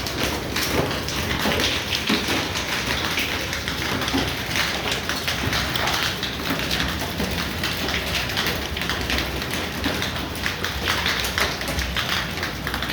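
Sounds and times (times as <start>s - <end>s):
heavy rain on hard surfaces: 0.0s - 12.9s.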